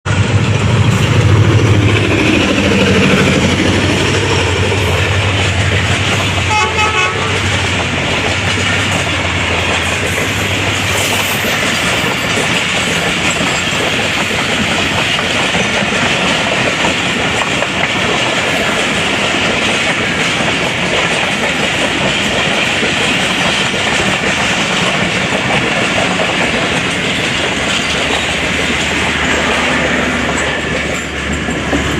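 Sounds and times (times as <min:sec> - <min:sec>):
diesel locomotive engine: 0:00.0 - 0:31.9
train wheels clattering on rails: 0:00.1 - 0:31.9.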